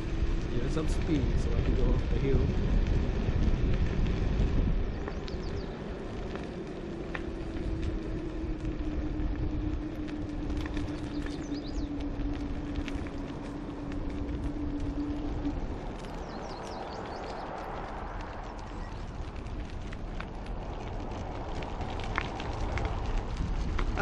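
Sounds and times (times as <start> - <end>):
hub motor whine: 0.0 - 24.0
wind noise: 0.0 - 24.0.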